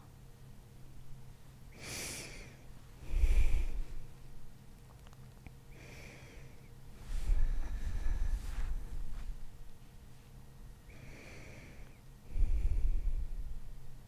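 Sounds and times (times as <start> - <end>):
quiet breaths: 1.7 - 4.6, 5.5 - 14.0.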